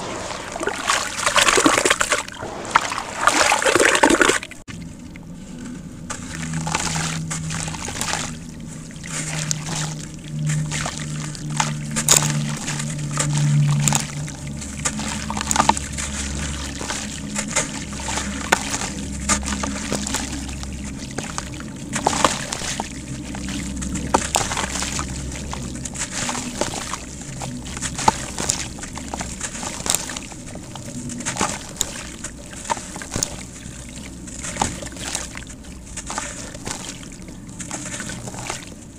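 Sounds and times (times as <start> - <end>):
water splashing and sloshing: 0.0 - 38.9
small wet crackles: 3.2 - 38.9.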